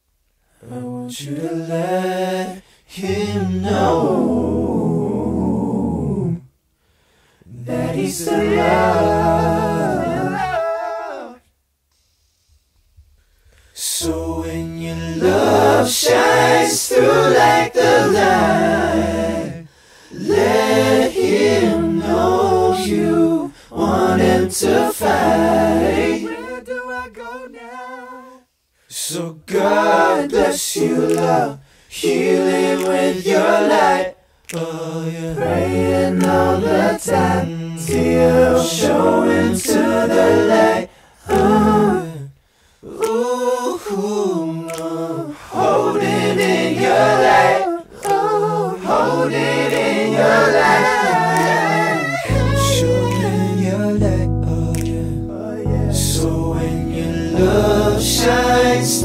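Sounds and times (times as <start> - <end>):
male choir singing harmonies: 0.6 - 6.5, 7.5 - 11.4, 13.8 - 59.0.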